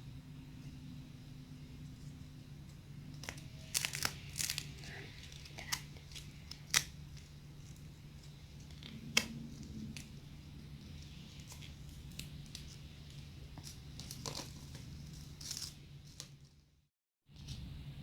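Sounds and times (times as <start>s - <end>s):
steady low hum: 0.0s - 18.0s
dried clay crackling: 1.7s - 16.8s.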